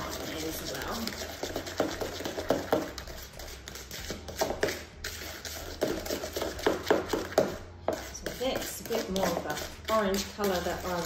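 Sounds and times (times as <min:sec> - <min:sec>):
spoon stirring in plastic bowl: 0:00.0 - 0:11.0.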